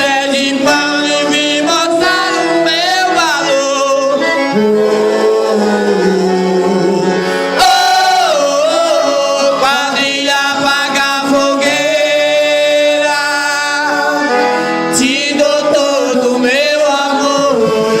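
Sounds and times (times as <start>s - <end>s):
instrumental accompaniment: 0.0s - 18.0s
man singing with vibrato: 0.0s - 18.0s.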